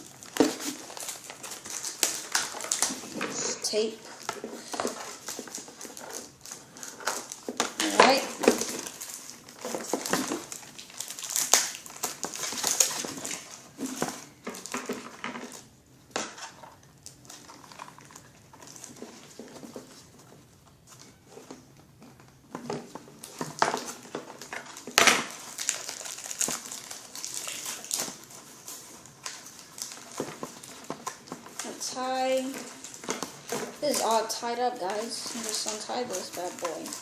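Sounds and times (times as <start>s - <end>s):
packaging crinkling and crunching: 0.0s - 37.0s.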